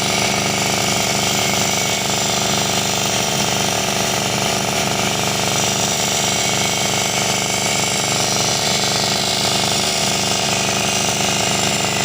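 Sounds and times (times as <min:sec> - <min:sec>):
power tool running: 0:00.0 - 0:12.0.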